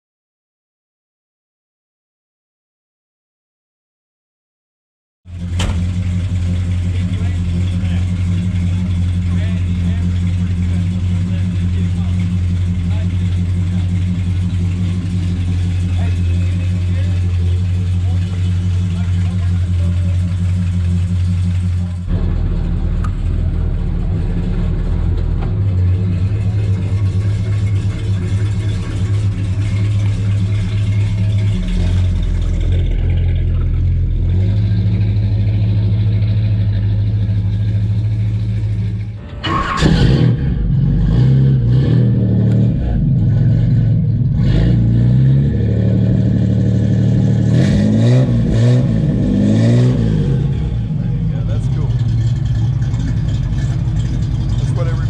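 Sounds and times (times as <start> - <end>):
car engine idling and revving: 5.3 - 55.0.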